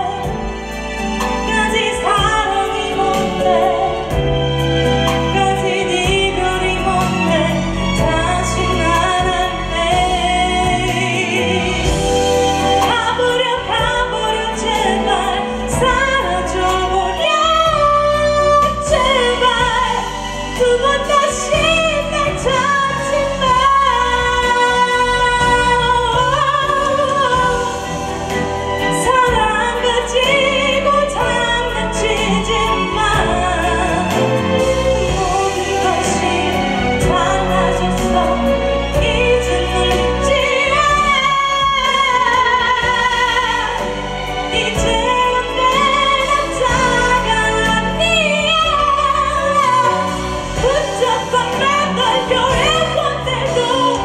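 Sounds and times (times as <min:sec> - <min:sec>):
backing music: 0:00.0 - 0:54.0
woman singing into microphone: 0:00.0 - 0:54.0.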